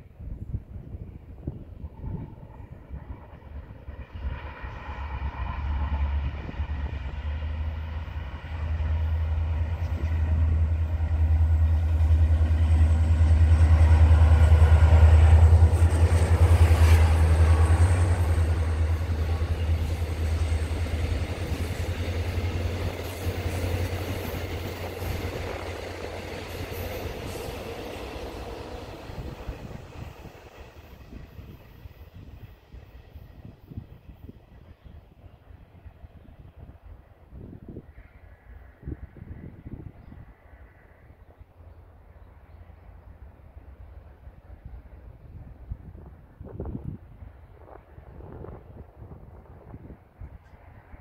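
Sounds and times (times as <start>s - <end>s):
locomotive hum: 0.8s - 51.0s.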